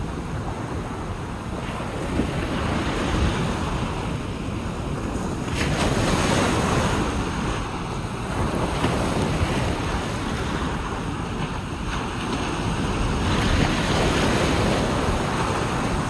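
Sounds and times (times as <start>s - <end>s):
ocean waves washing onto beach: 0.0s - 16.0s
wind buffeting microphone: 0.0s - 16.0s.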